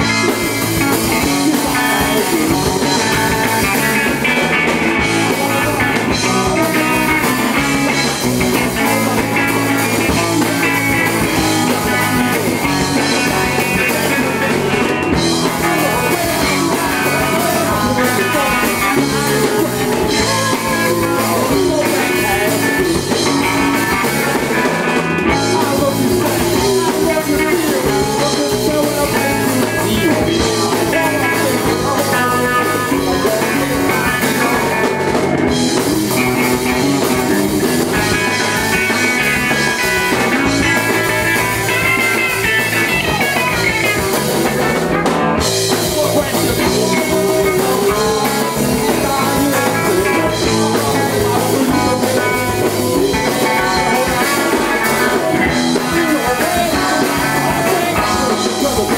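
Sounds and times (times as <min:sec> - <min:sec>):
drum kit: 0:00.0 - 0:58.9
electric guitar: 0:00.0 - 0:58.9.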